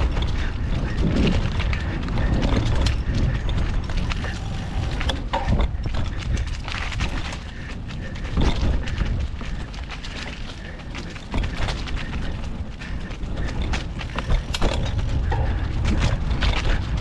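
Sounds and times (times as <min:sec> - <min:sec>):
bike rattling and knocking: 0:00.0 - 0:17.0
wind buffeting microphone: 0:00.0 - 0:17.0.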